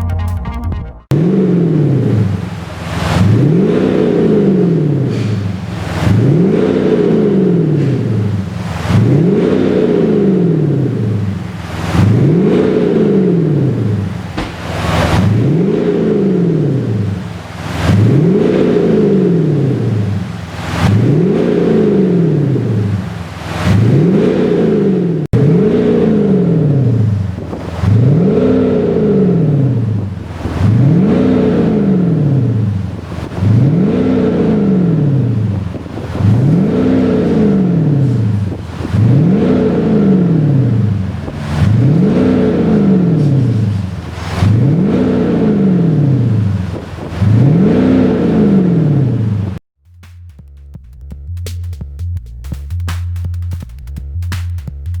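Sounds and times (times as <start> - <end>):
synthetic engine exhaust revving: 1.0 - 55.0.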